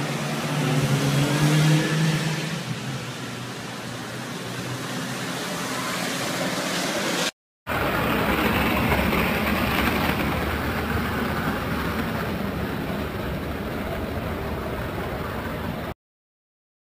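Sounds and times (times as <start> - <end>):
skateboard wheels rolling on asphalt: 0.0 - 15.9
truck engine: 0.0 - 16.0.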